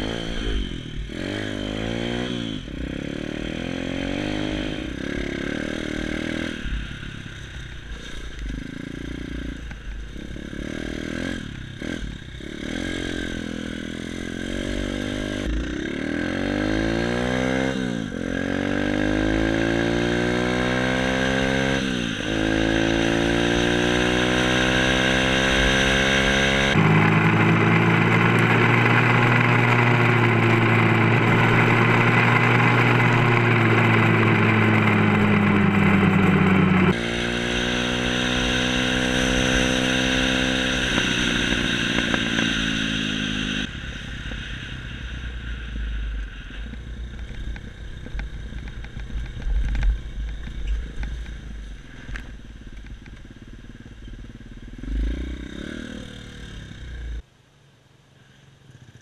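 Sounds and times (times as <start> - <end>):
dirt bike engine revving: 0.0 - 44.8, 53.5 - 57.2.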